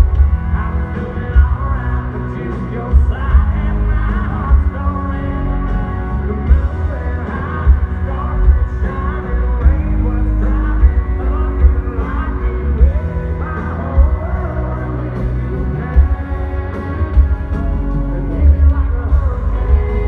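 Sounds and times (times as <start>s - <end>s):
live country band playing: 0.0s - 20.0s
person singing: 0.0s - 20.0s.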